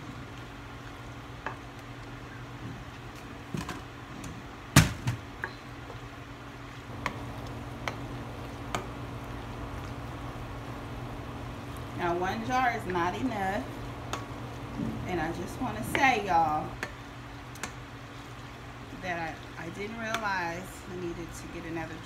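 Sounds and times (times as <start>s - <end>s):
wooden spoon stirring in skillet: 0.0s - 4.6s, 5.3s - 22.0s
steady low hum: 0.0s - 22.0s.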